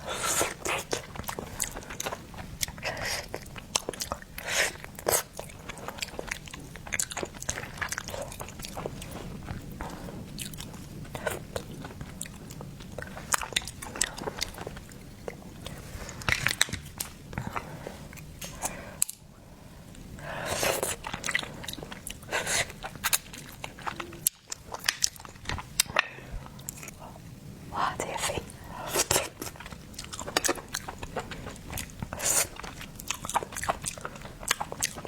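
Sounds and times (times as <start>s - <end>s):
person chewing seafood: 0.0s - 35.0s.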